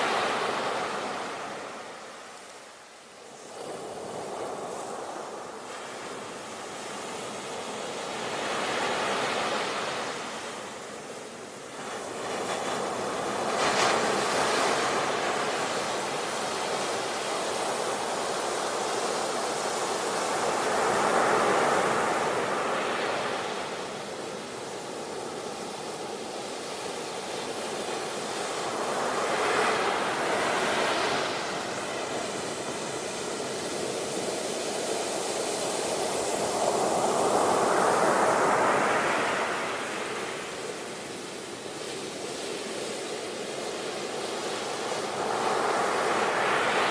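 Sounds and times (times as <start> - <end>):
ocean waves washing onto beach: 0.0 - 46.9.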